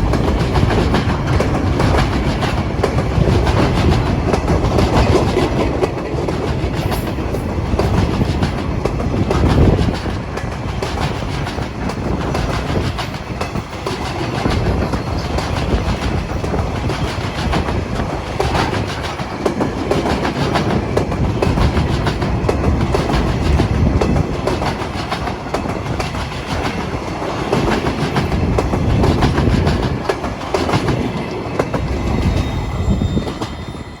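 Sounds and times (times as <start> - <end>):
train wheels clicking on rails: 0.0 - 34.0.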